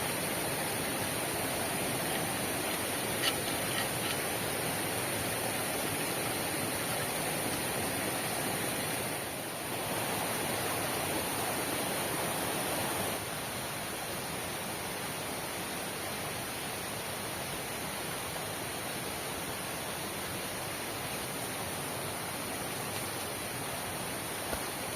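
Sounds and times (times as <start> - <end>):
heavy rain hissing: 0.0 - 24.9.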